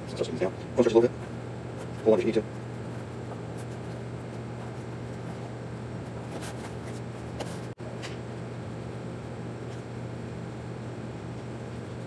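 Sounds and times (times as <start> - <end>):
mechanical room hum: 0.0 - 12.0.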